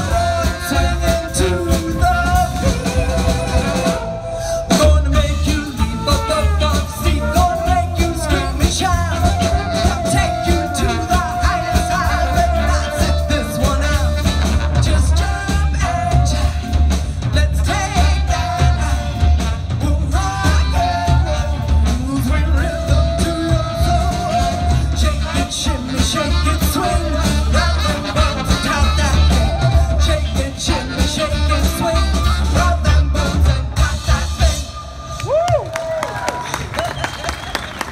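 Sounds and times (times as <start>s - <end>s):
live band playing: 0.0s - 37.9s.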